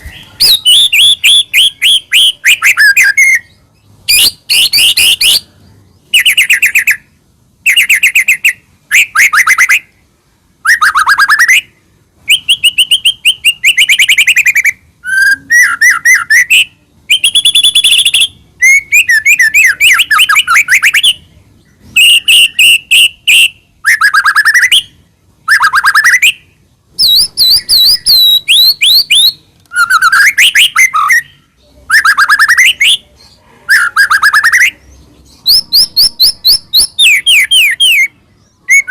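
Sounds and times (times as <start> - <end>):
bird singing whistling phrases: 0.0 - 5.5, 6.1 - 9.9, 10.6 - 11.7, 12.3 - 21.3, 22.0 - 33.1, 33.7 - 38.9.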